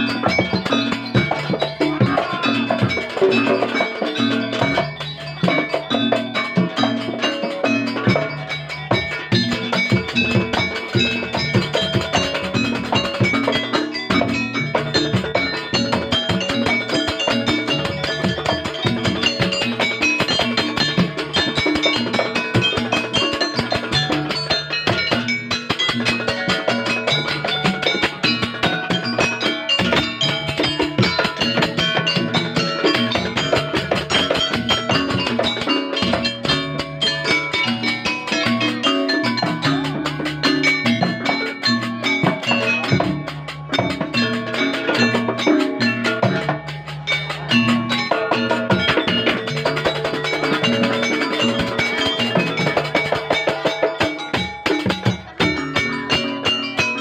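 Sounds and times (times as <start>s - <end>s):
bright melody line: 0.0s - 57.0s
fast drum strikes: 0.0s - 57.0s.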